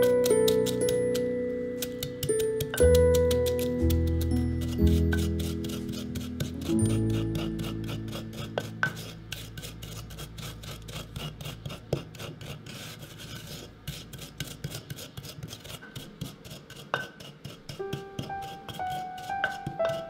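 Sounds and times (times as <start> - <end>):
pestle crushing chips in mortar: 0.0 - 20.0.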